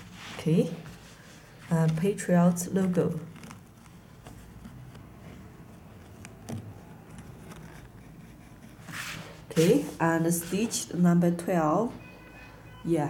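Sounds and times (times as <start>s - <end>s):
fingers rubbing jersey fabric: 0.0s - 10.9s.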